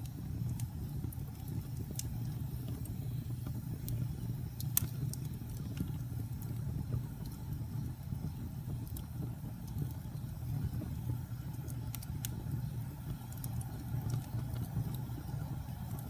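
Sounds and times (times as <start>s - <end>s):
fire crackles and pops: 0.0s - 16.0s
wood fire roaring: 0.0s - 16.0s.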